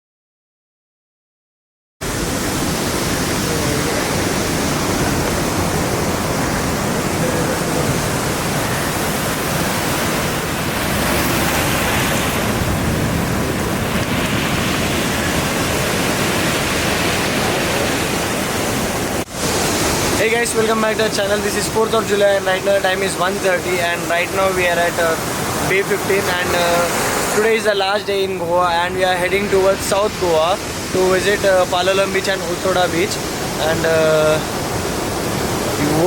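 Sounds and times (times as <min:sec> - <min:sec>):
sea surf washing on shore: 0:02.0 - 0:36.0.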